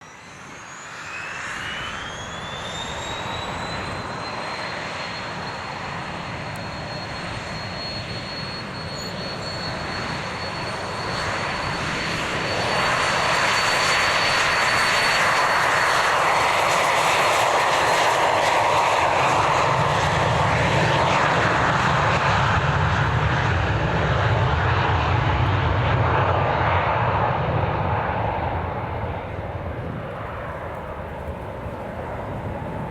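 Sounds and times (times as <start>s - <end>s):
jet engine whine: 0.0s - 32.9s
jet roar: 0.0s - 32.9s.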